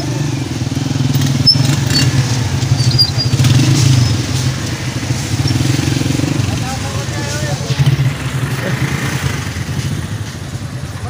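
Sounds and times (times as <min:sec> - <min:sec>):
motorcycles riding past: 0:00.0 - 0:11.0.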